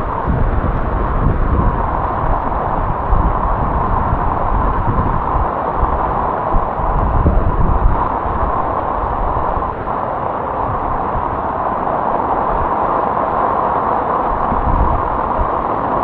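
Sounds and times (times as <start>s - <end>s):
heavy rain on street: 0.0s - 16.0s
wind rumble on microphone: 0.0s - 16.0s.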